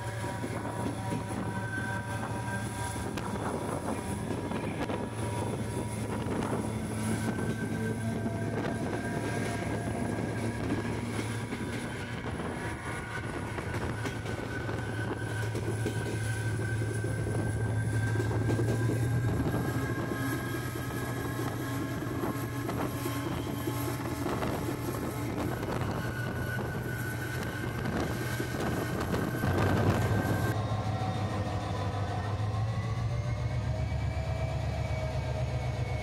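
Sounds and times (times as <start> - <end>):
diesel locomotive engine drone: 0.0 - 36.0
wheel and rail noise: 0.0 - 36.0.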